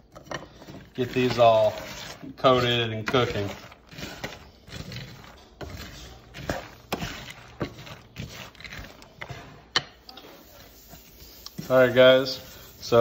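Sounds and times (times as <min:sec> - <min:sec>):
spoon stirring nuts in a pan: 0:00.0 - 0:13.0.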